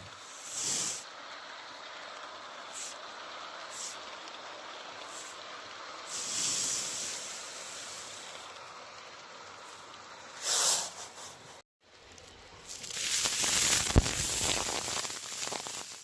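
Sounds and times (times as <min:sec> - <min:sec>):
model train hiss: 0:00.0 - 0:11.6, 0:12.7 - 0:16.0.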